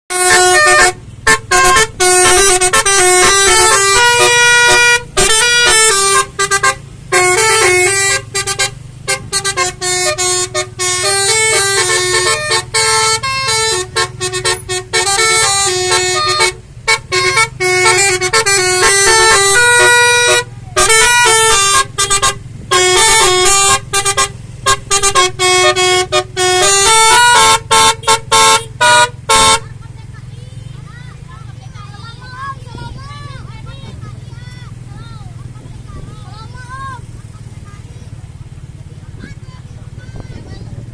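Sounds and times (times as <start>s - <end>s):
multi-tone vehicle horn melody: 0.1s - 40.9s.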